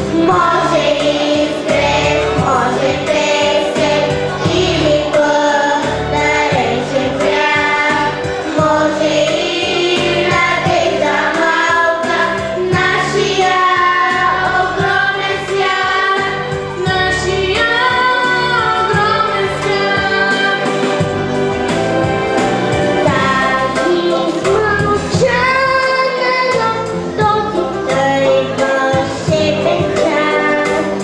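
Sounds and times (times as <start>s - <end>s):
backing track with steady beat: 0.0s - 31.0s
children's choir singing: 0.0s - 31.0s.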